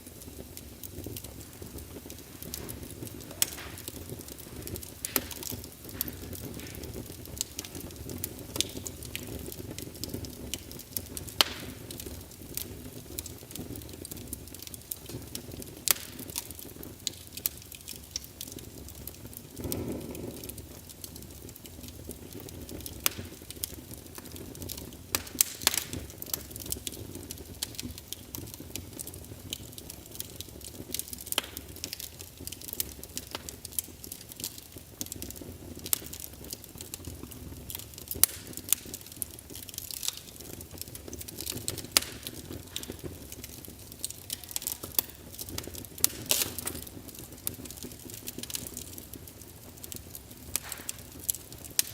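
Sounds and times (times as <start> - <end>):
fire popping: 0.0 - 51.9
low rumble of flame: 0.0 - 51.9
wood fire crackling: 0.0 - 51.9.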